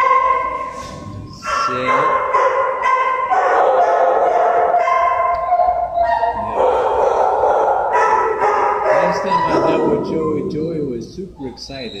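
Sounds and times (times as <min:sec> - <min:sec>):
dogs barking and howling: 0:00.0 - 0:10.8.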